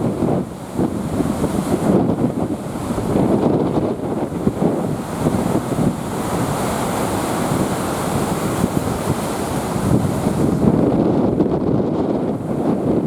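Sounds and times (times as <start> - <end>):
surf breaking and churning: 0.0 - 13.0
wind buffeting microphone: 0.0 - 13.0.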